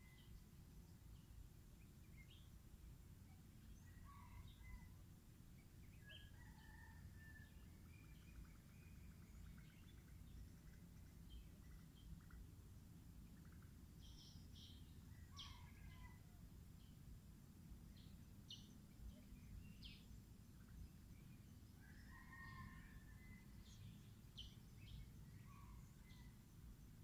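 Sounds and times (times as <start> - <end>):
faint birds chirping: 0.0 - 27.0
low steady background rumble: 0.0 - 27.0.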